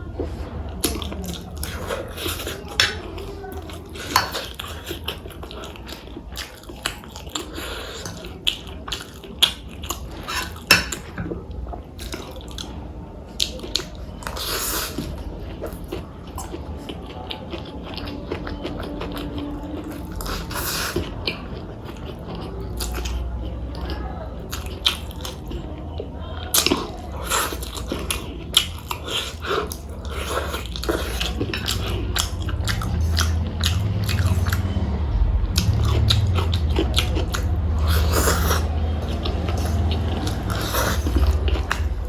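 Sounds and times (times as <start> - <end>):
low steady hum: 0.0 - 42.0
person chewing food: 0.0 - 42.0.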